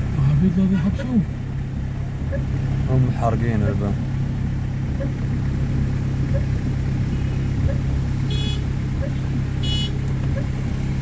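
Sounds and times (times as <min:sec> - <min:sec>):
motor vehicle rumbling: 0:00.0 - 0:11.0.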